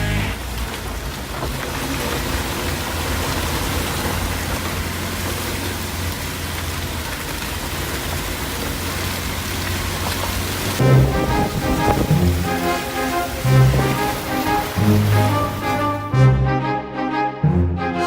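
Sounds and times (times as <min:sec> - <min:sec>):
rain falling: 0:00.0 - 0:16.8.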